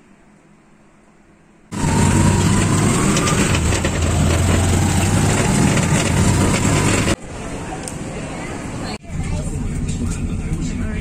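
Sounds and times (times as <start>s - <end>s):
road noise: 0.0s - 11.0s
vehicle engine humming: 1.7s - 11.0s.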